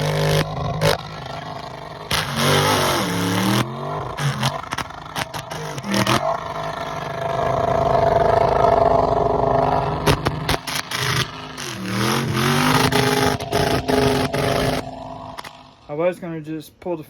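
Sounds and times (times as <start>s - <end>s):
truck engine revving: 0.0s - 15.9s.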